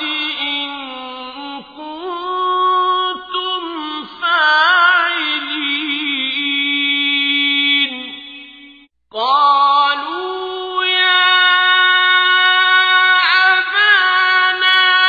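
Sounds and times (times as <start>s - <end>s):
melodic solo recitation: 0.0s - 15.0s.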